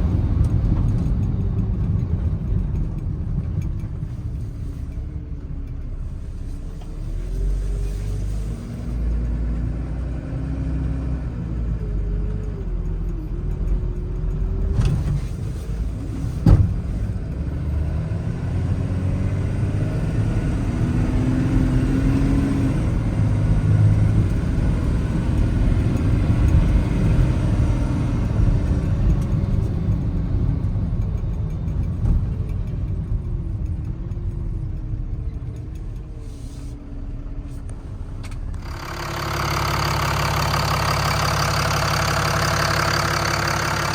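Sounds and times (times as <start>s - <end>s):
diesel truck engine driving: 0.0s - 43.9s.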